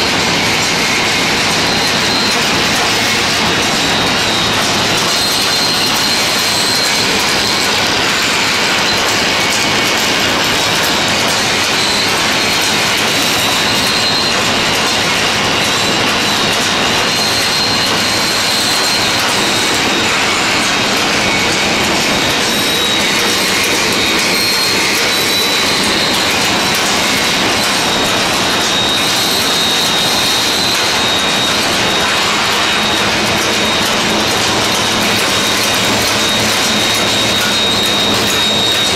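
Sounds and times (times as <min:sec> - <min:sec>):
packaging machine clatter: 0:00.0 - 0:38.9.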